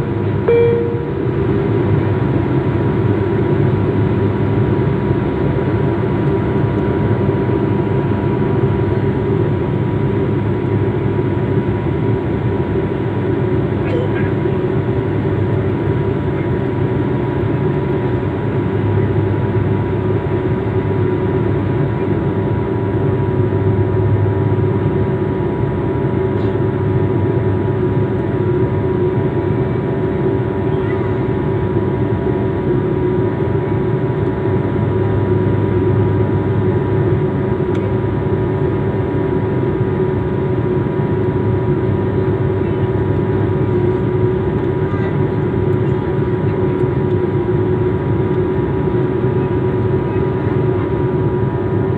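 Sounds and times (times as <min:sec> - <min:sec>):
aeroplane engine drone: 0:00.0 - 0:51.9.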